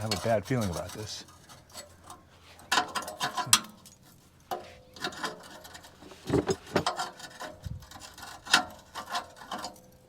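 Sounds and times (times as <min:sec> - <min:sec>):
hand tools clanking on metal: 0:00.0 - 0:10.0.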